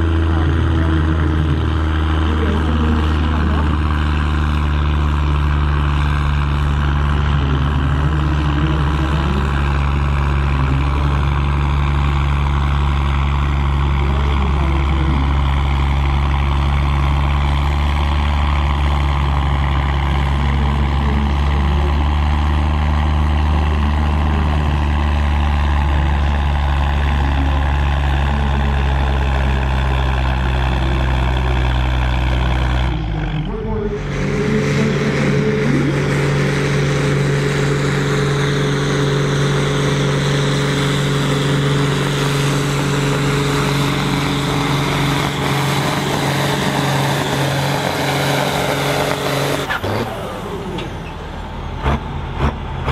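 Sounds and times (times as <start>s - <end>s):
tractor diesel engine under load: 0.0s - 52.9s.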